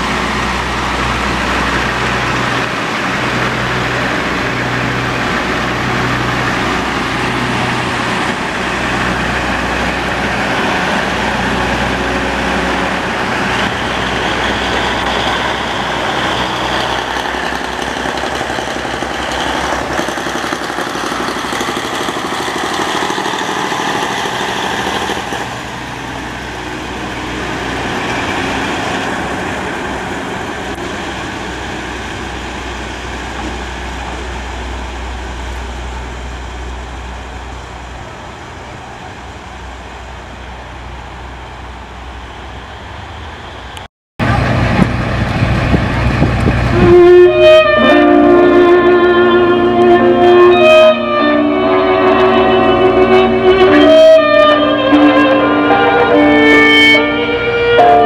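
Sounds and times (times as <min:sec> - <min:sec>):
diesel railcar engines humming: 0:00.0 - 0:58.0.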